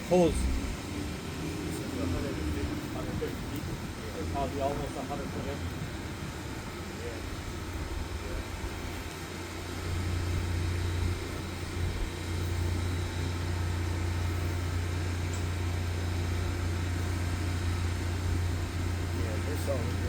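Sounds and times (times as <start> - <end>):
motor and pump humming: 0.0 - 20.0.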